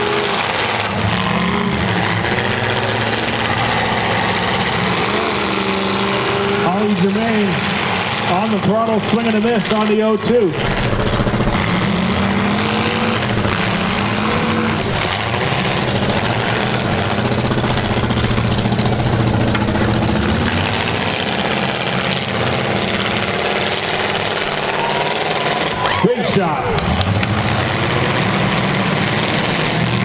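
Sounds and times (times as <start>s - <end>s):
car engines running hard: 0.0s - 30.0s.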